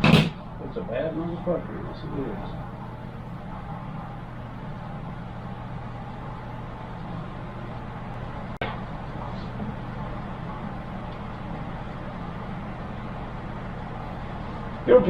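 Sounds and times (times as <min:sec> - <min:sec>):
computer fans whirring: 0:00.0 - 0:15.0.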